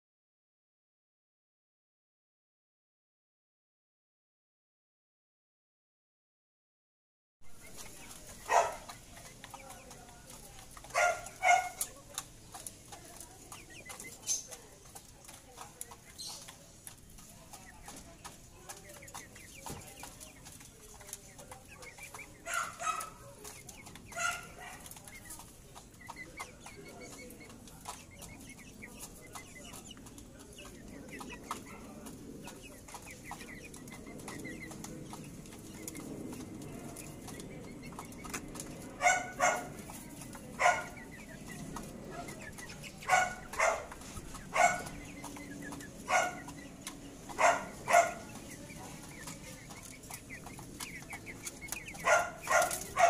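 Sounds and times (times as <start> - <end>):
chickens clucking: 7.5 - 53.0.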